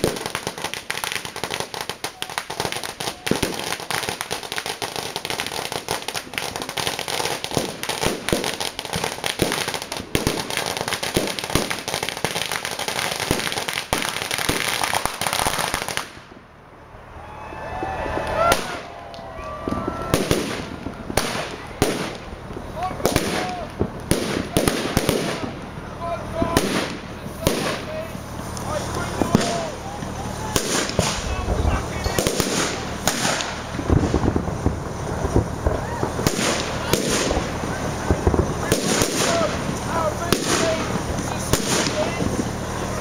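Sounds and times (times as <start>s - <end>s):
fireworks crackling and banging: 0.0s - 43.0s.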